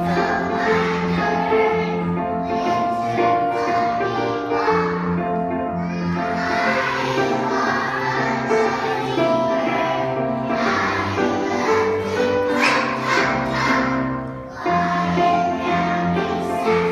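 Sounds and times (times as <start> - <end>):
held instrumental notes: 0.0 - 16.9.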